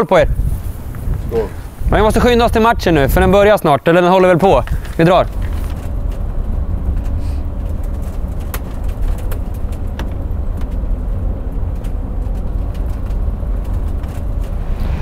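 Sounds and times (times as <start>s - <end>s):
bus engine and road rumble: 0.0s - 15.0s
light rattles and clicks: 1.9s - 14.6s.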